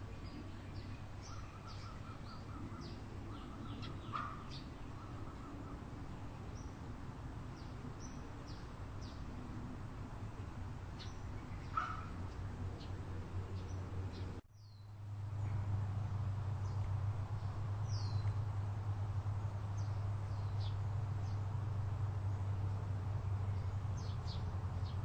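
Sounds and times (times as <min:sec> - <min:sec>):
small birds chirping: 0:00.0 - 0:06.8, 0:07.5 - 0:09.3, 0:10.2 - 0:15.7, 0:16.6 - 0:18.6, 0:19.4 - 0:25.0
low steady rumble: 0:00.0 - 0:25.0.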